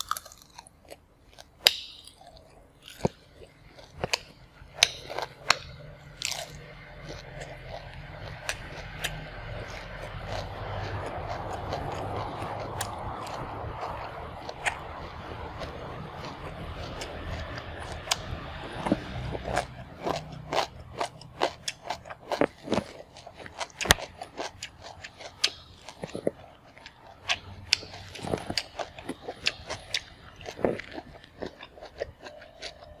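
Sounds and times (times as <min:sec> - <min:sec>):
chewing and crunching cucumber: 0:00.0 - 0:33.0.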